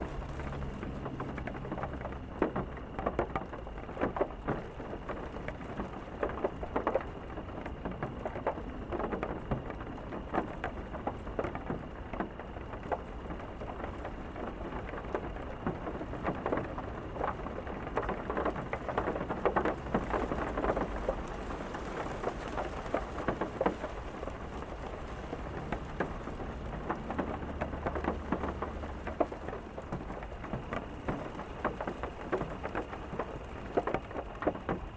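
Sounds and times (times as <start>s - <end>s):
raindrops striking close by: 0.0s - 34.9s
steady rain hiss: 0.0s - 34.9s.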